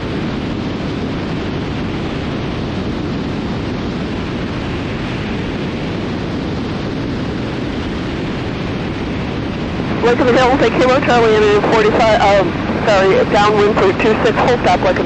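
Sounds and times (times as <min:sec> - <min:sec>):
airplane in-flight rushing noise: 0:00.0 - 0:15.0.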